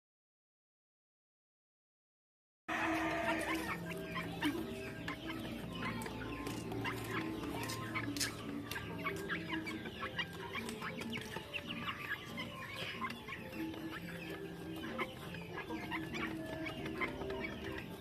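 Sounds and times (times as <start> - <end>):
chickens clucking: 2.7 - 18.0.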